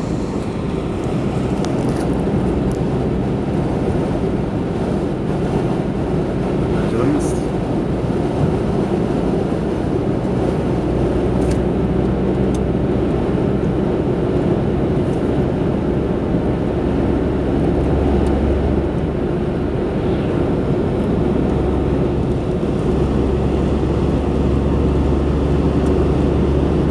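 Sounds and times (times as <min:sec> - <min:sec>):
car road and engine drone: 0:00.0 - 0:26.9
deep low rumble: 0:00.0 - 0:26.9.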